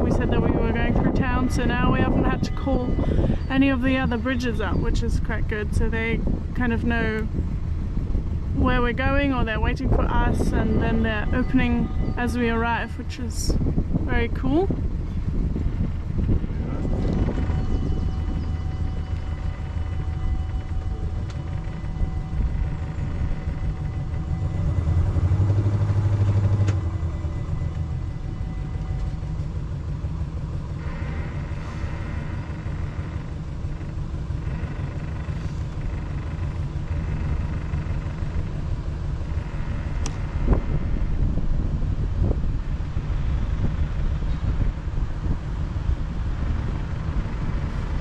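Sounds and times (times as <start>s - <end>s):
boat engine rumbling: 0.0s - 48.0s.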